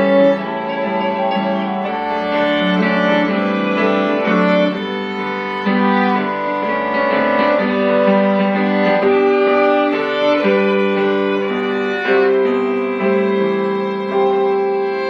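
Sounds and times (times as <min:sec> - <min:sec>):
keyboard piano chords: 0:00.0 - 0:15.0
violins bowing long notes: 0:00.0 - 0:15.0.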